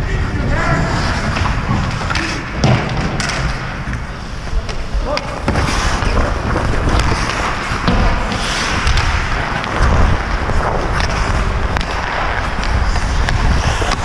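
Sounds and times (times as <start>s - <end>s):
hockey sticks clacking: 0.0s - 14.0s
skate blades scraping ice: 0.0s - 14.0s.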